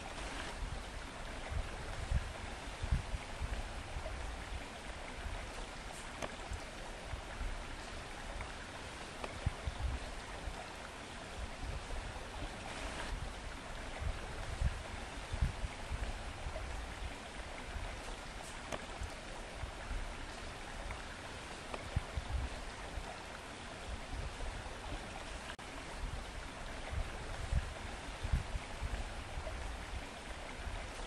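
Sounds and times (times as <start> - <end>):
stream running: 0.0 - 31.0
wind rumbling on microphone: 0.0 - 31.0.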